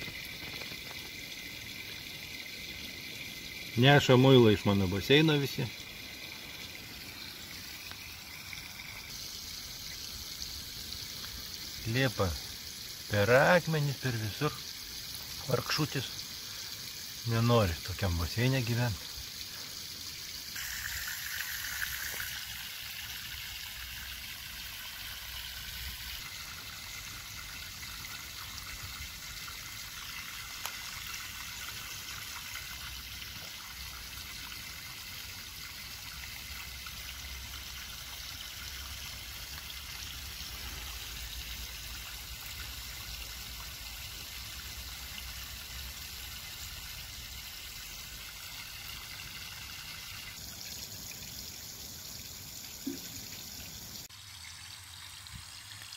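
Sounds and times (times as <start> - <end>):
trickle of running water: 0.0 - 55.9.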